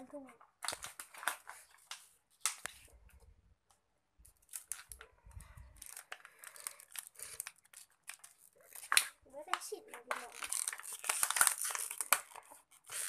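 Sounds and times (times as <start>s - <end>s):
plastic crinkling: 0.6s - 2.9s, 4.3s - 13.0s.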